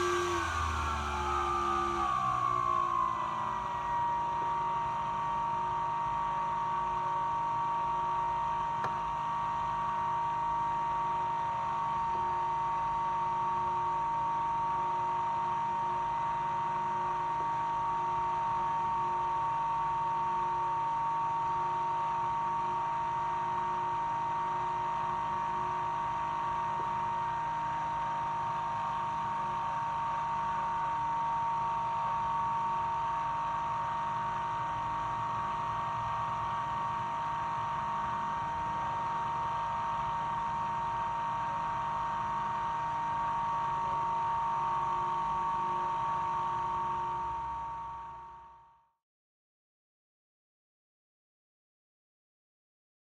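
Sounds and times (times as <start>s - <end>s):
electric ducted fan whine: 0.0s - 48.8s.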